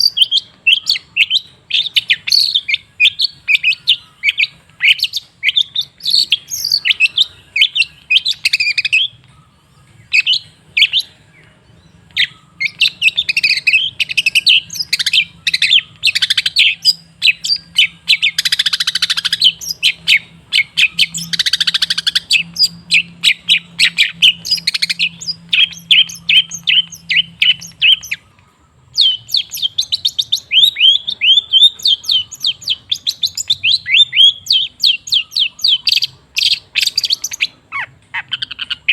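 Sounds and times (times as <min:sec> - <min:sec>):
bird chattering song: 0:00.0 - 0:38.9
harsh rasping bird calls: 0:00.0 - 0:38.9.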